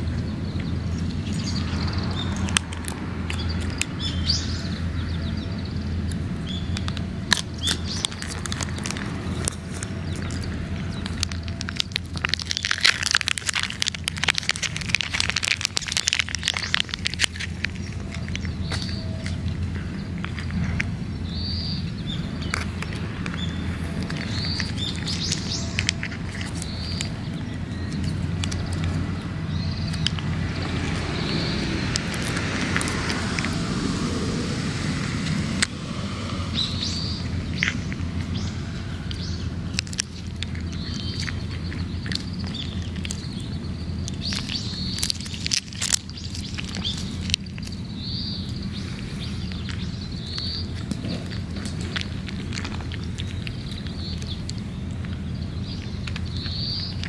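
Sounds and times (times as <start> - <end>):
birds chirping: 0.0 - 57.0
cat crunching dry kibble: 0.0 - 57.0
steady low rumble: 0.0 - 57.0.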